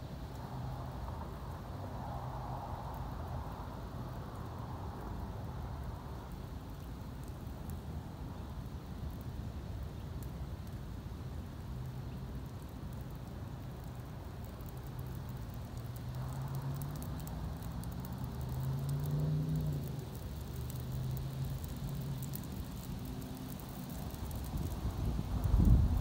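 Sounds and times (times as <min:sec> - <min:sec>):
fire crackling: 0:00.0 - 0:26.0.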